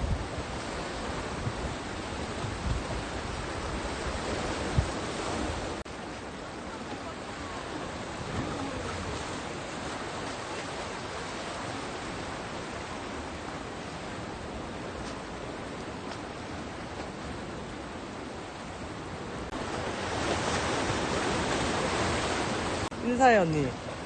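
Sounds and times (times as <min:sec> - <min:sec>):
sea surf: 0:00.0 - 0:24.0.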